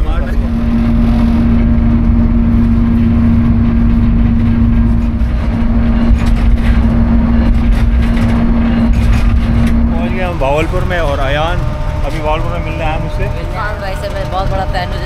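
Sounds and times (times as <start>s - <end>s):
locomotive rumbling: 0.0s - 15.0s
train rattles: 0.0s - 15.0s.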